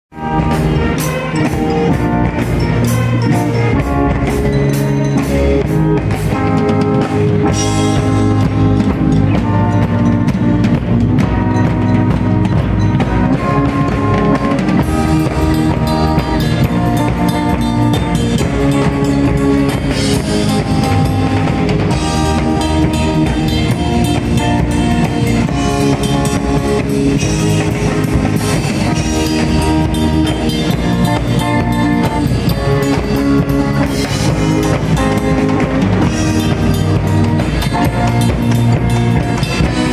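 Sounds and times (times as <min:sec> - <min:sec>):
live band playing: 0:00.1 - 0:39.9
steady drumbeat: 0:00.1 - 0:39.9.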